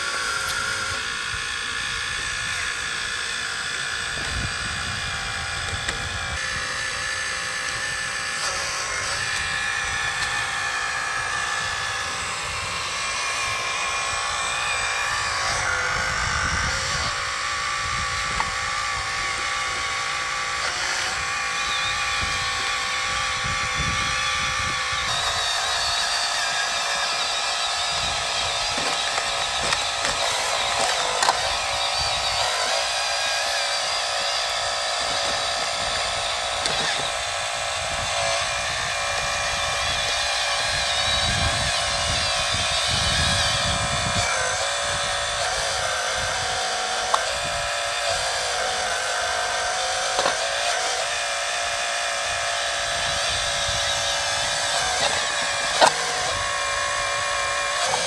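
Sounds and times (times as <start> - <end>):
hydraulic pump whining: 0.0 - 58.0.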